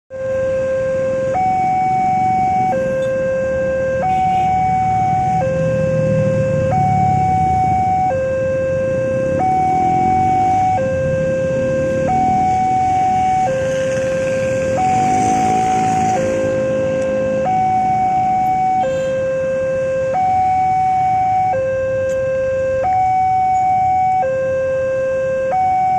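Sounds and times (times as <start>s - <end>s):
two-tone crossing alarm: 0.1s - 25.9s
motorcycle engines: 0.2s - 25.9s.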